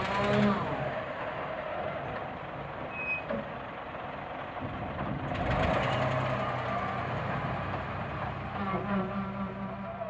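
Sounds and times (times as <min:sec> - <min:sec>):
excavator engine running: 0:00.0 - 0:10.0.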